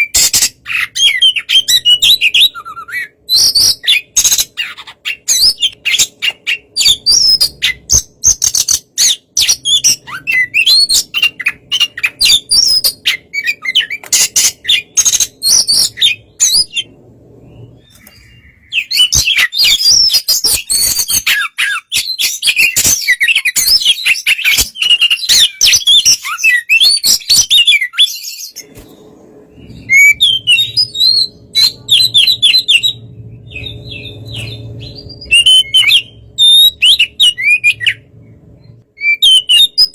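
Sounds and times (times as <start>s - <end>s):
songbird singing chirps and whistles: 0.0s - 39.9s.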